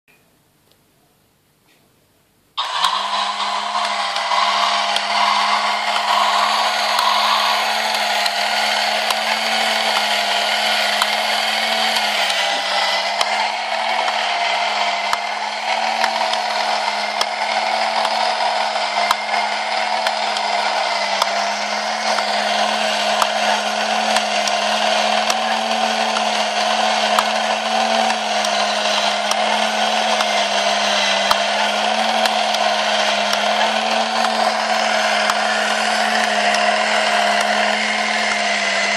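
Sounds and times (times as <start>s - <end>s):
small electric motor whirring: 2.6s - 38.9s.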